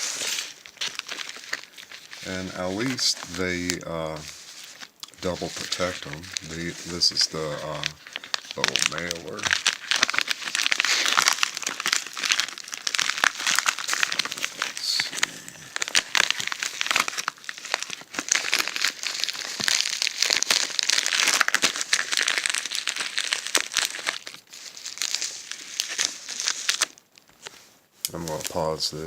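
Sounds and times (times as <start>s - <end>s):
packaging crinkling: 0.0s - 29.0s.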